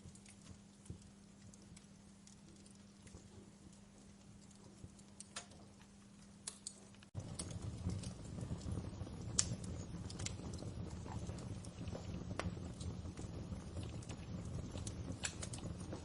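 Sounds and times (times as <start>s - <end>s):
fireplace crackling and popping: 0.0s - 16.0s
low fire rumble: 0.0s - 16.0s.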